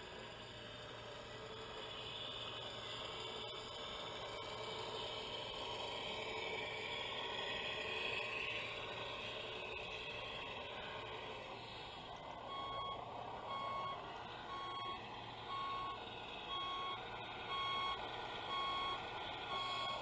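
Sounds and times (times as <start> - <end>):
model truck motor whir: 0.0 - 20.0.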